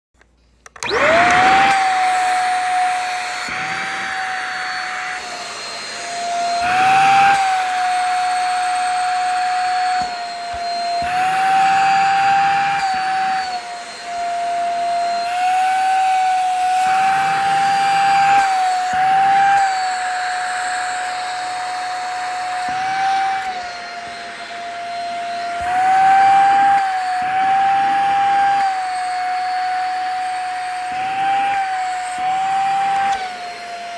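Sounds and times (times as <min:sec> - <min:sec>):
vacuum cleaner motor whine: 0:00.6 - 0:33.9.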